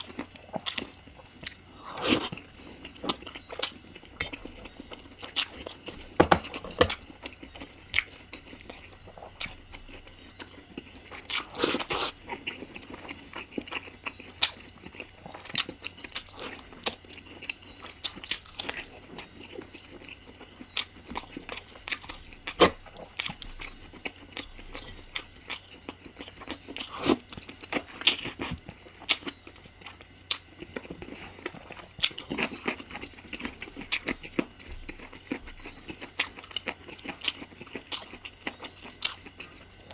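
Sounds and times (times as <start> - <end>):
person eating and chewing: 0.0 - 39.9.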